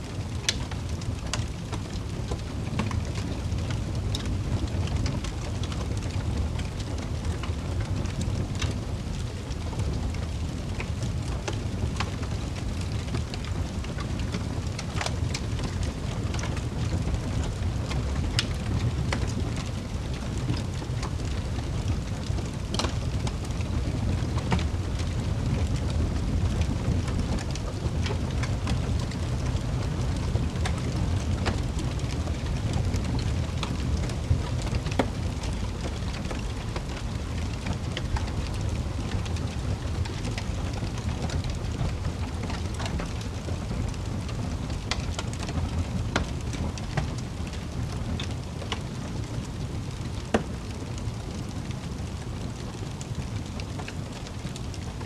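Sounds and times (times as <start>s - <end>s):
fire crackling and popping: 0.0s - 55.0s
low roar of flames: 0.0s - 55.0s.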